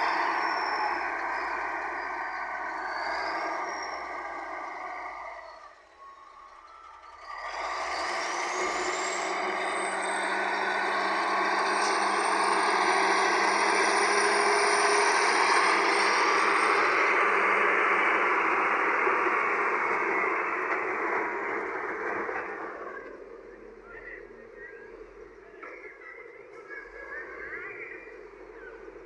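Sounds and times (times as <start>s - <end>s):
wheel loader diesel engine: 0.0s - 29.0s.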